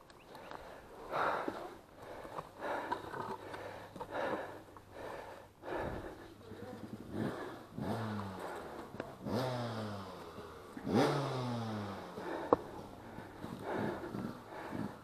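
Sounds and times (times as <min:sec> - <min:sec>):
man breathing heavily: 0:00.2 - 0:15.0.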